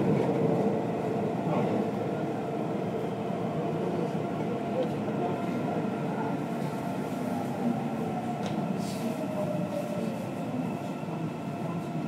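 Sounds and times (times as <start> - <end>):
subway train rumbling in tunnel: 0.0 - 12.0.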